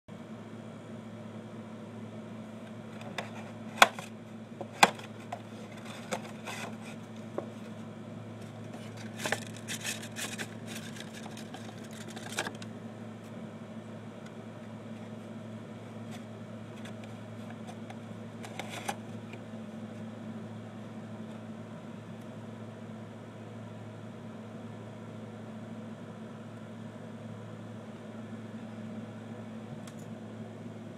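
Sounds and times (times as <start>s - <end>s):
steady low hum: 0.1s - 30.9s.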